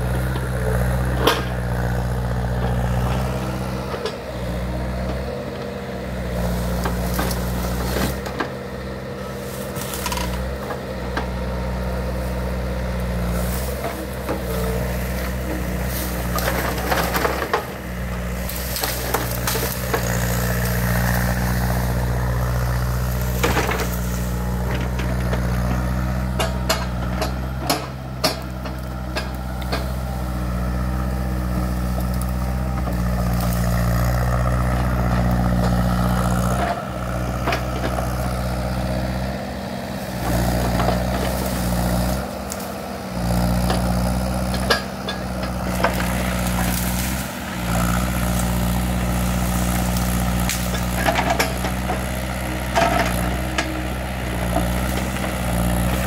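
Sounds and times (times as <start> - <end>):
diesel engine running: 0.0 - 56.0
branches cracking and snapping: 9.4 - 11.4, 13.0 - 56.0.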